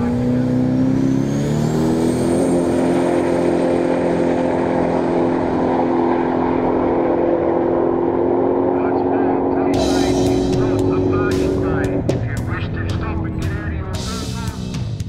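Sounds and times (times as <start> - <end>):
high turbo whine: 0.0 - 15.0
race car engine at full throttle: 0.0 - 15.0.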